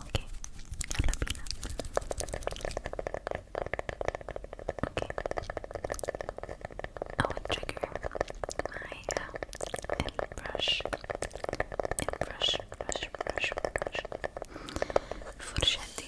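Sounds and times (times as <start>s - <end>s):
small clicks and crackles: 0.0s - 16.0s.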